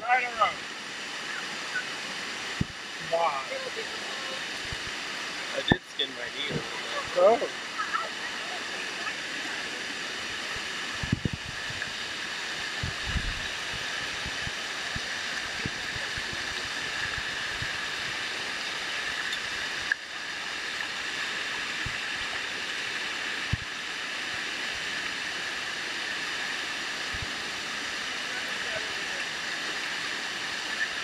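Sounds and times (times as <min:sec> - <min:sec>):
waterfall rushing over rocks: 0:00.0 - 0:31.0.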